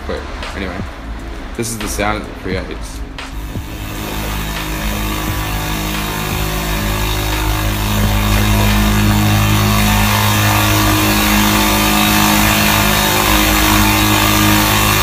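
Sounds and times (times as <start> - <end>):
loud rough hiss: 0.0 - 15.0
low droning hums: 0.0 - 15.0.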